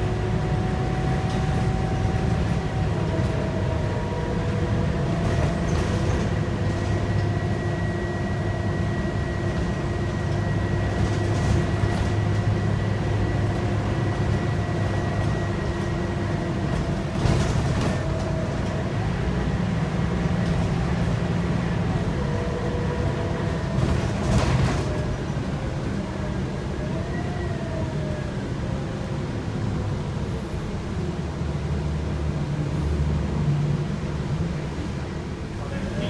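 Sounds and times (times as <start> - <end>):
bus diesel engine running: 0.0 - 36.0
road noise: 0.0 - 36.0.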